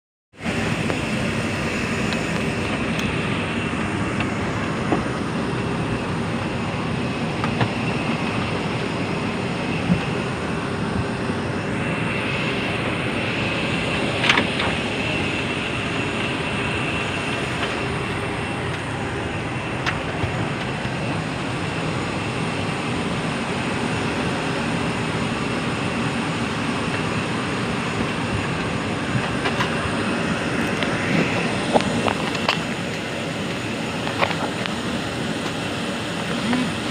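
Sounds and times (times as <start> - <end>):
airliner cabin noise: 0.4 - 36.9.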